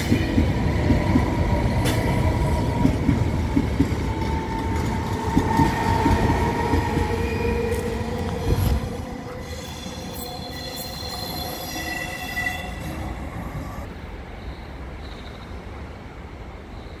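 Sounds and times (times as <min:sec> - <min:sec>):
train wheels squealing on rails: 0:00.0 - 0:15.6
low train rumble: 0:00.0 - 0:17.0.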